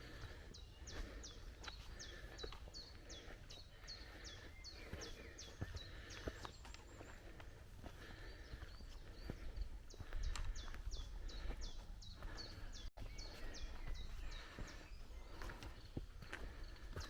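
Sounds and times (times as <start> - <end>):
footsteps on forest trail: 0.0 - 17.0.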